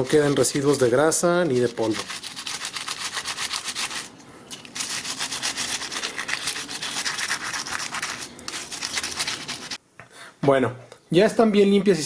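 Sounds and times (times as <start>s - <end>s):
brush scrubbing plastic fan blades: 0.0s - 9.8s.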